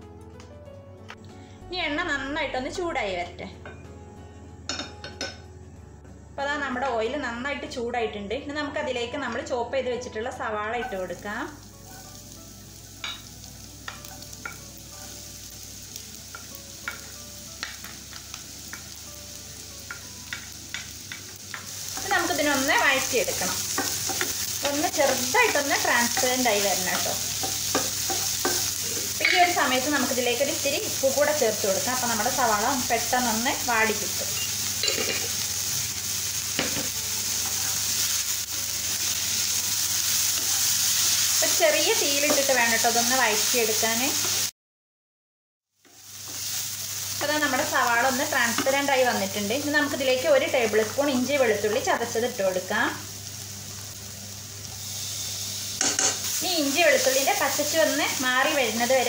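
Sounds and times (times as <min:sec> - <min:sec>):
onions sizzling in oil: 0:08.4 - 0:44.5, 0:45.8 - 0:59.0.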